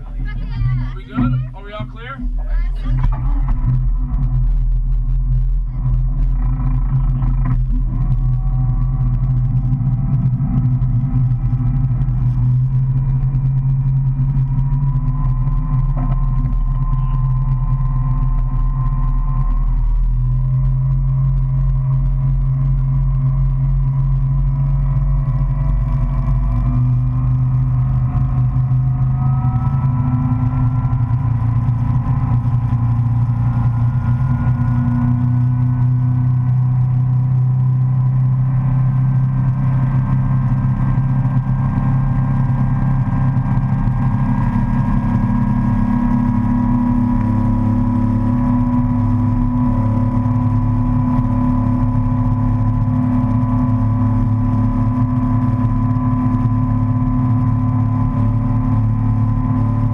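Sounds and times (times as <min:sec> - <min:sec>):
motorboat engine droning: 0:00.0 - 0:59.9.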